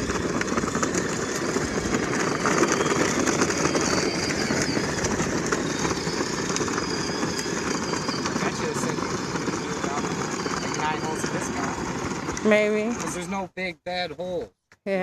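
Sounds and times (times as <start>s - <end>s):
hard wheels rolling on pavement: 0.0s - 13.4s
toy car motor rumble: 0.0s - 13.5s
high motor whine: 0.0s - 14.2s.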